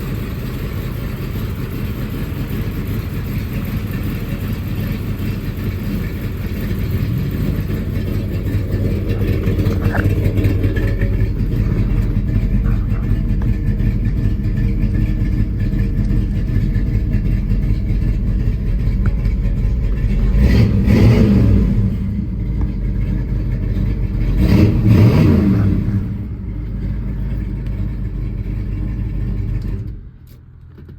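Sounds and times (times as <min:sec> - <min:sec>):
pickup engine idling and revving: 0:00.0 - 0:30.9.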